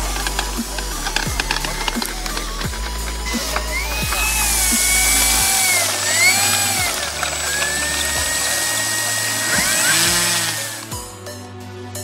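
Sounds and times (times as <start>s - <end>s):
model plane electric motor whining: 0.0s - 11.0s.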